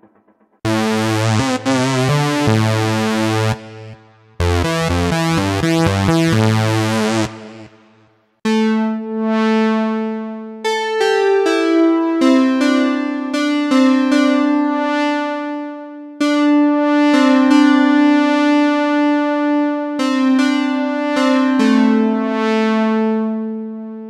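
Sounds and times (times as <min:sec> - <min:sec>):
buzzy synthesizer chords: 0:00.0 - 0:24.0
held synthesizer chord: 0:00.7 - 0:24.0.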